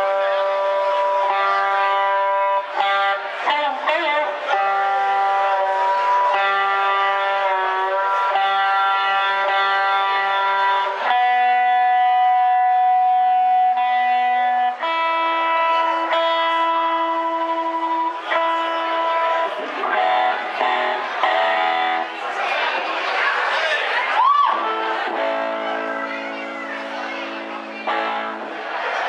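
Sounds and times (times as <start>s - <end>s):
electric guitar notes being tuned: 0.0s - 22.6s, 24.2s - 29.0s.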